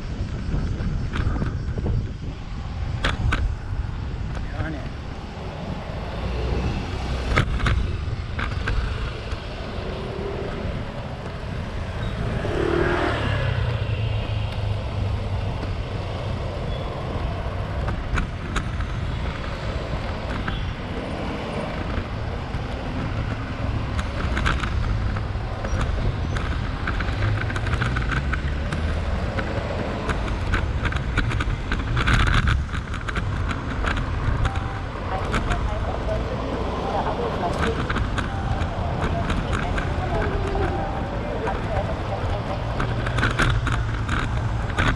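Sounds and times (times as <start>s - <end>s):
cars passing: 0.0s - 44.9s
low traffic rumble: 0.0s - 44.9s.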